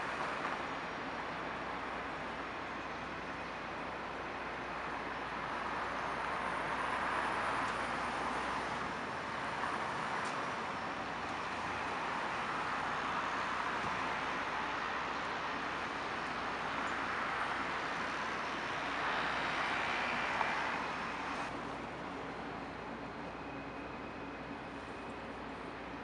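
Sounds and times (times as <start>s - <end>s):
urban background hiss: 0.0s - 26.0s.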